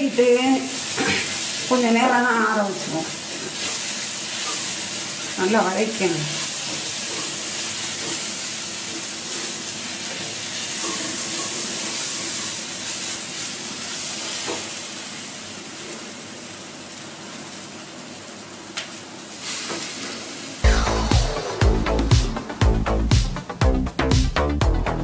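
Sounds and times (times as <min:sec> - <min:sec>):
vegetables sizzling in oil: 0:00.0 - 0:21.6.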